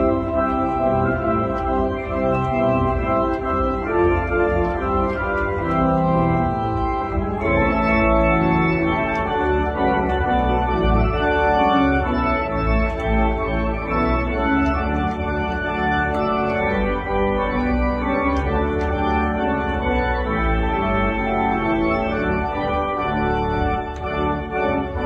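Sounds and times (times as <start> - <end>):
church organ playing a hymn: 0.0 - 25.0.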